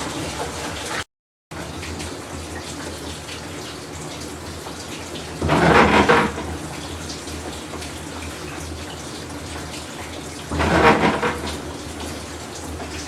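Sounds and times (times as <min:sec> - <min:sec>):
washing machine low hum: 0:00.0 - 0:13.0
water sloshing in washing machine: 0:00.0 - 0:13.0.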